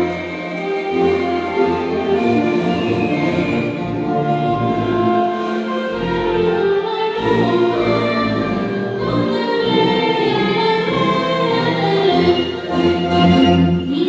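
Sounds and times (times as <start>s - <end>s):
choir singing: 0.0s - 14.0s
orchestral music: 0.0s - 14.0s.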